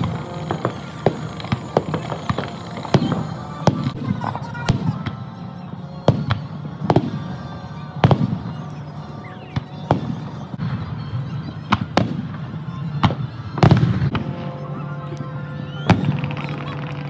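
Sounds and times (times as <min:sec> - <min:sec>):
fireworks bursting: 0:00.0 - 0:17.0
music: 0:00.0 - 0:17.0.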